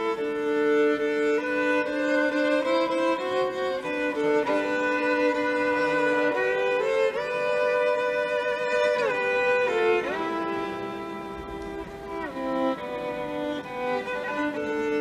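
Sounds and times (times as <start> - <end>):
violin slow melody: 0.0 - 15.0.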